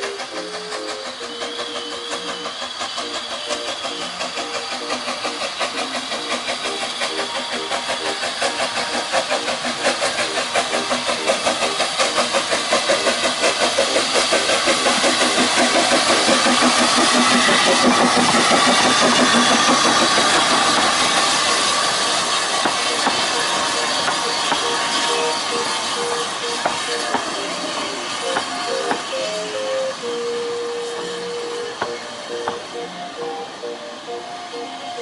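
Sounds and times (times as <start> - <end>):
steam locomotive exhaust beats: 0.0 - 35.0.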